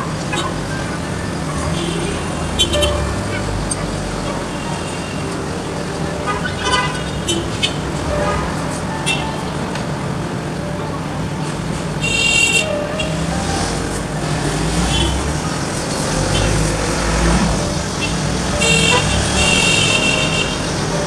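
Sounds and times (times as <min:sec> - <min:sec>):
car horns: 0:00.0 - 0:21.0
low rumble of engines: 0:00.0 - 0:21.0.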